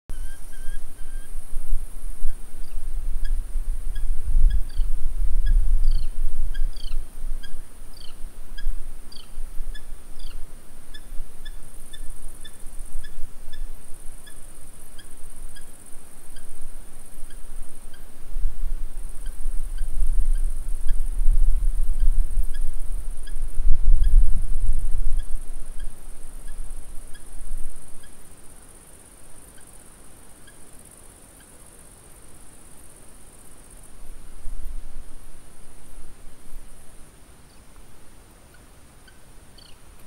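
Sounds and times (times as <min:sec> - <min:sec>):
steady high hiss: 0:00.1 - 0:40.0.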